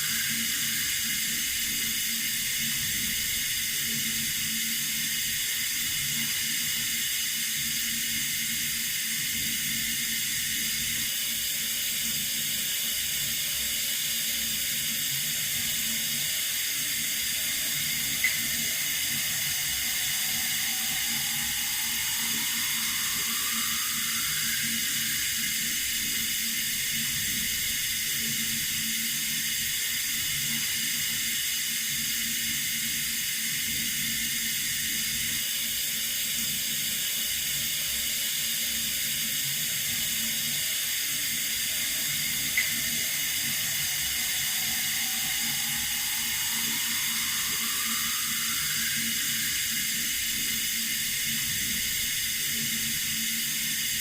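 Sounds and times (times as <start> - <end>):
running water hissing: 0.0 - 54.0.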